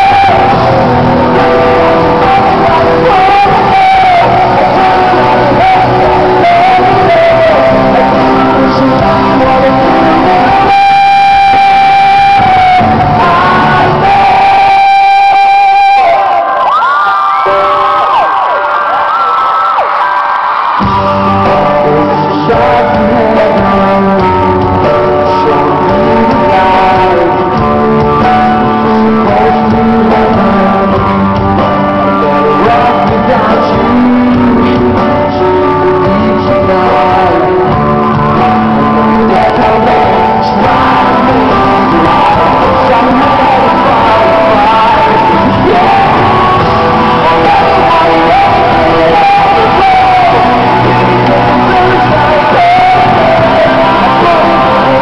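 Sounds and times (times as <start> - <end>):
drums: 0.0 - 55.0
electric guitar: 0.0 - 55.0
lead singer singing: 0.0 - 55.0
pop-rock band playing: 0.0 - 55.0.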